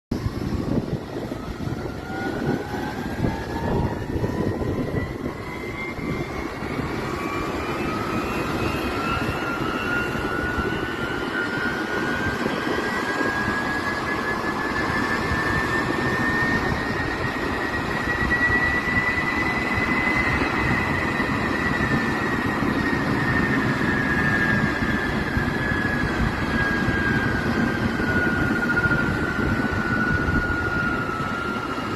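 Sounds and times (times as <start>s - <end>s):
steady rushing noise: 0.1s - 31.9s
turbine engine whine: 0.1s - 31.9s.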